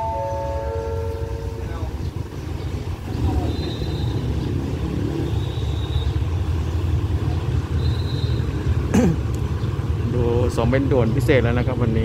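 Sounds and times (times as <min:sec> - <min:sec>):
diesel train rumble: 0:00.0 - 0:12.0.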